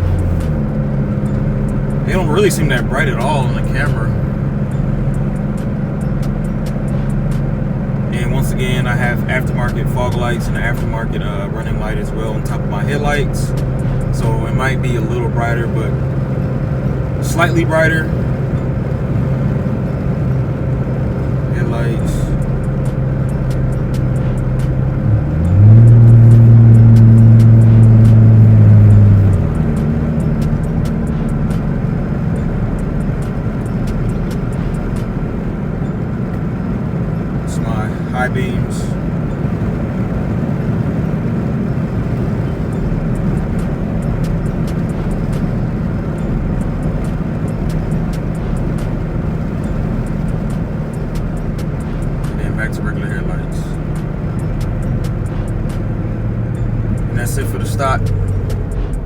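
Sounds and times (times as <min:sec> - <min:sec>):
car engine droning: 0:00.0 - 0:59.0.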